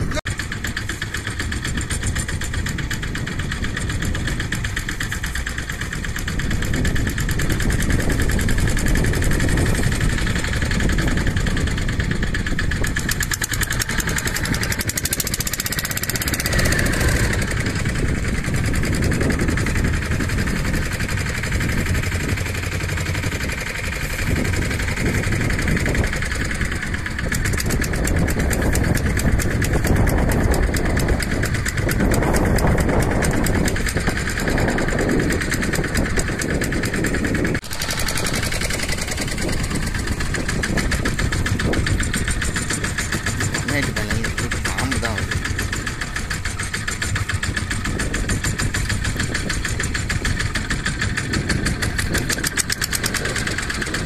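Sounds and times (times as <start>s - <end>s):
boat engine running steadily: 0.0s - 54.0s.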